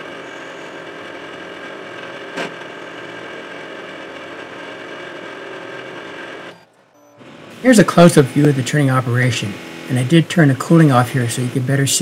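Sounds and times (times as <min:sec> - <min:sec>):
lathe running: 0:00.0 - 0:12.0.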